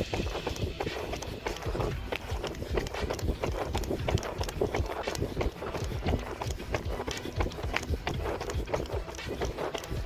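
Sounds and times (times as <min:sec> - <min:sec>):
running footsteps: 0:00.0 - 0:10.0.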